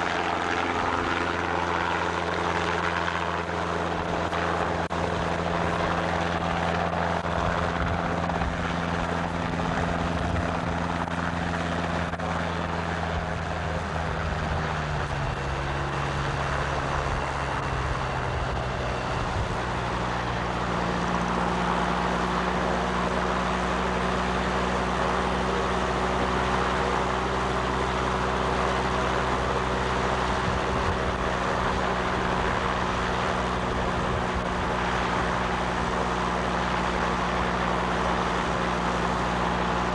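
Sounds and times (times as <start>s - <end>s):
small aircraft engine overhead: 0.0s - 39.9s.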